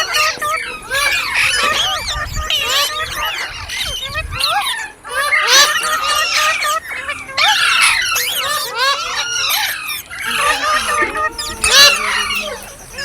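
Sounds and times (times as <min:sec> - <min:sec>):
parakeets chirping and squawking: 0:00.0 - 0:13.0.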